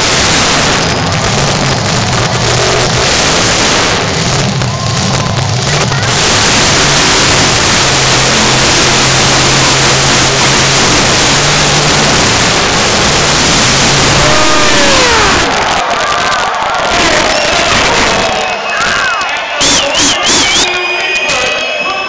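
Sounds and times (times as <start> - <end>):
wheels churning dirt: 0.0 - 18.1
monster truck engine revving: 0.0 - 21.2.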